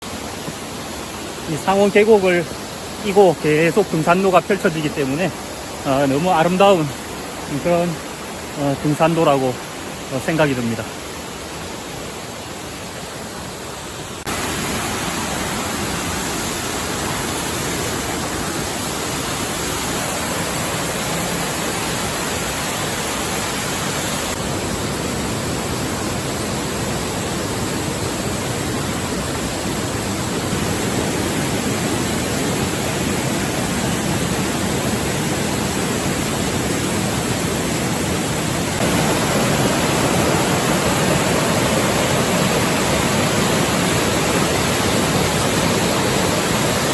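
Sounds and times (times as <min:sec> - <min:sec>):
stream rushing: 0:00.0 - 0:46.9.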